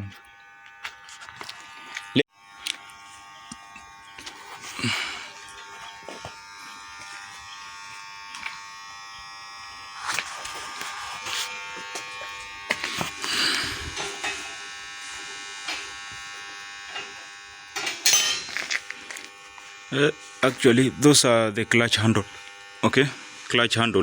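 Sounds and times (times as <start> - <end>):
high electrical buzz: 0.0 - 24.0.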